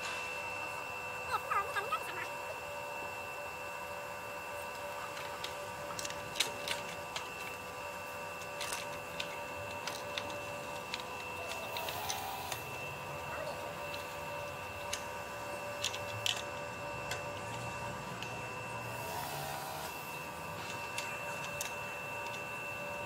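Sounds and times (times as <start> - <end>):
steady hum of held tones: 0.0 - 23.0.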